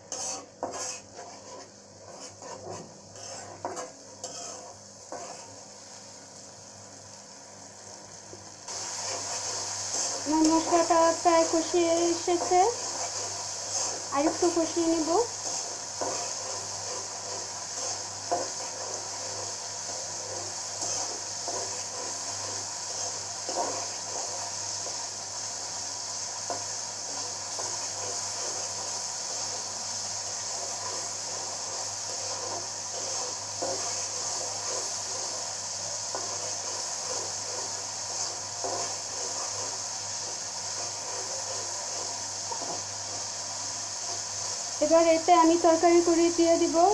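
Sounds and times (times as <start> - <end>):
spatula scraping a pan: 0.0 - 5.8, 8.7 - 44.3
paste sizzling in oil: 0.0 - 46.9.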